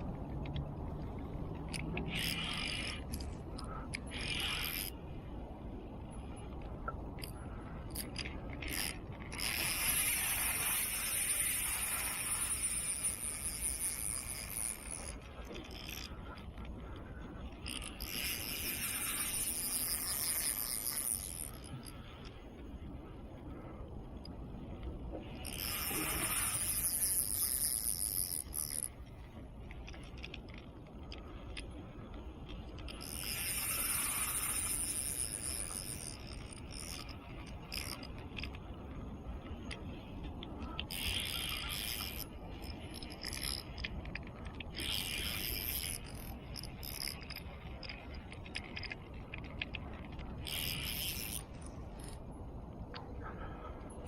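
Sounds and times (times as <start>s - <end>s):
fishing reel whirring and clicking: 0.0s - 53.0s.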